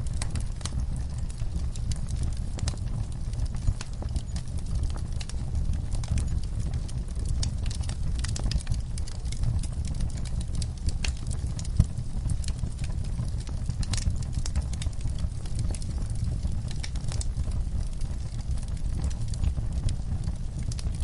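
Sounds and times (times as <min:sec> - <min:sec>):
log fire rumbling: 0:00.0 - 0:21.0
wood crackling and popping: 0:00.0 - 0:21.0.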